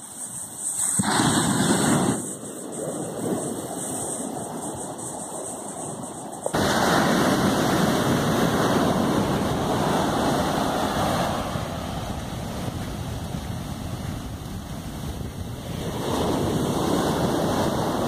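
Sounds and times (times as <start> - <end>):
sea surf washing: 0.0 - 18.0
wind buffeting microphone: 1.0 - 18.0.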